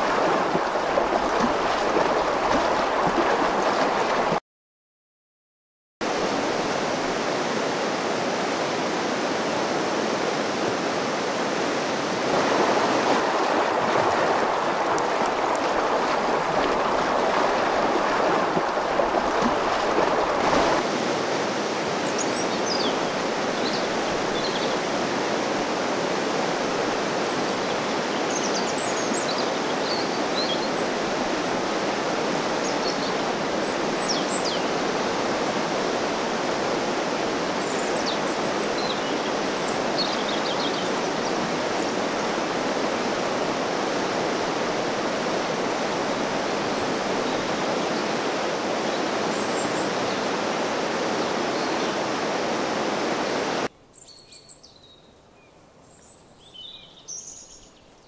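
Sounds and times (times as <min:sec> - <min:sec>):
river rushing over rapids: 0:00.0 - 0:04.4, 0:06.1 - 0:53.7.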